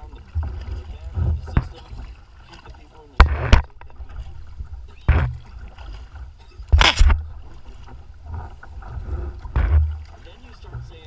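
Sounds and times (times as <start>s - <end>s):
water slapping against kayak hull: 0.0s - 11.0s.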